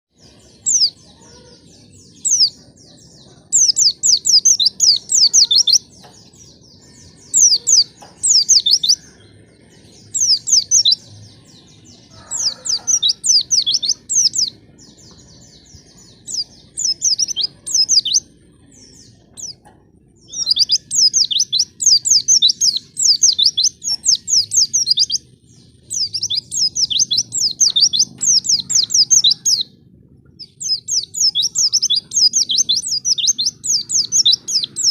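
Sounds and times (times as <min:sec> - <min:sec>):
white-eye bird song: 0:00.0 - 0:34.9.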